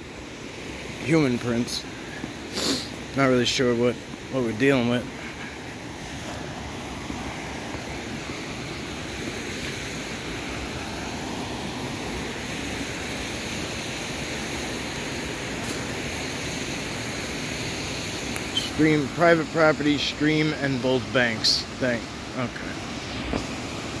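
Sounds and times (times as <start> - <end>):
fast-flowing stream rushing: 0.0 - 24.0.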